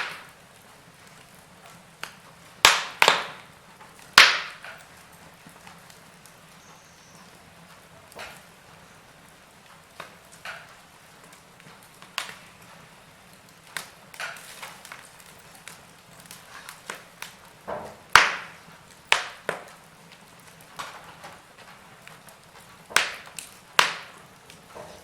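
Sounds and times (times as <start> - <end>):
sharp pops of burning wood: 0.0 - 25.0
wood fire crackling: 0.0 - 25.0.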